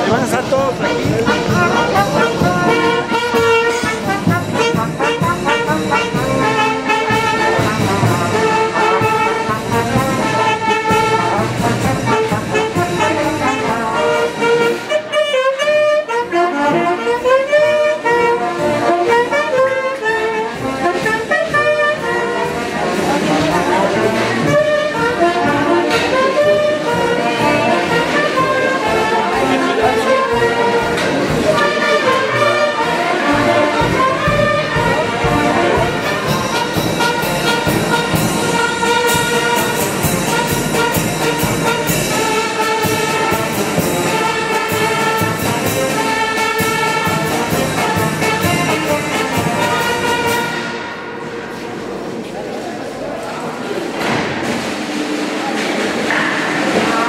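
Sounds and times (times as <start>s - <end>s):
brass band playing lively melody: 0.0s - 57.0s.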